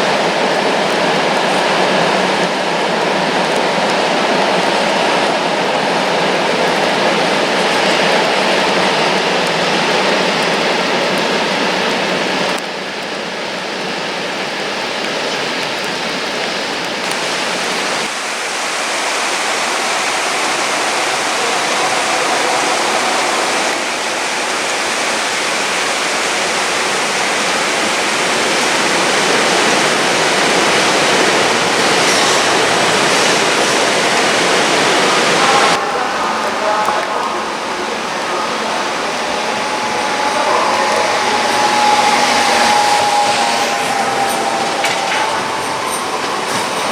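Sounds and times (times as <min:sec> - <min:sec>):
heavy rain hissing: 0:00.0 - 0:46.9.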